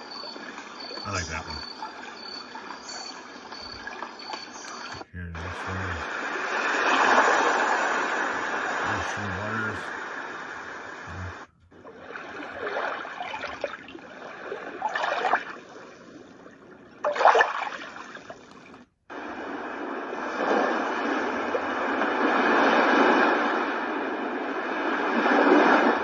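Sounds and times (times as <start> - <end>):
recorded ocean surf: 0.0 - 26.0.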